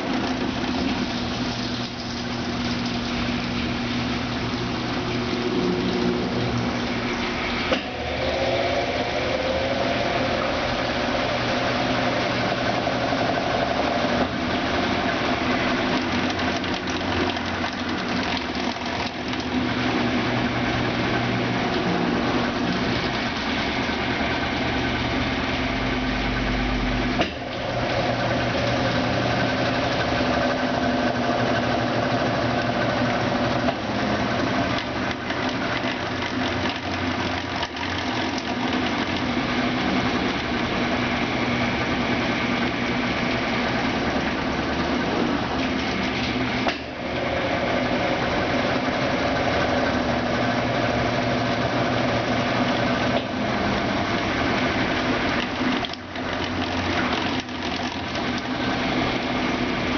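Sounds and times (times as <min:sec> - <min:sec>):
washing machine motor humming: 0:00.0 - 0:59.9.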